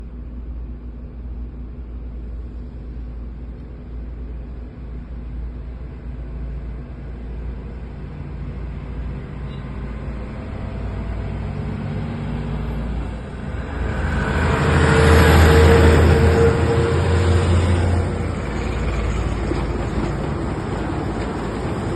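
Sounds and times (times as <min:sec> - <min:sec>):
truck diesel engine rumbling: 0:01.8 - 0:21.9.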